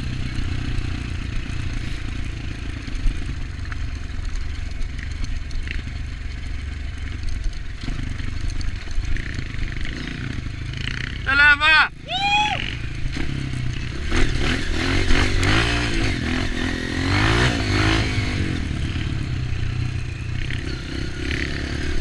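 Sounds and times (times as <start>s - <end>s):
bike rattling: 0.0s - 11.3s, 12.3s - 22.0s
dirt bike engine running: 0.0s - 22.0s.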